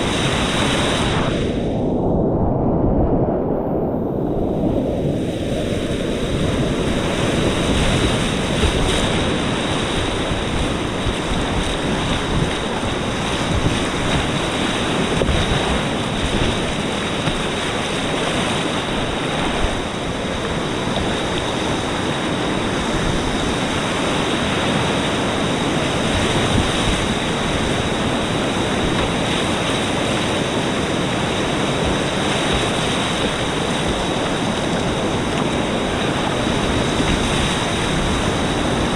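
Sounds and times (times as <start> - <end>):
river rapids rushing: 7.1 - 38.9.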